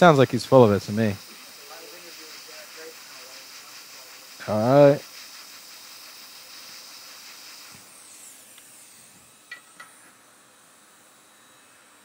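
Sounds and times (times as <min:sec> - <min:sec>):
hot air blower hissing: 0:00.0 - 0:12.0.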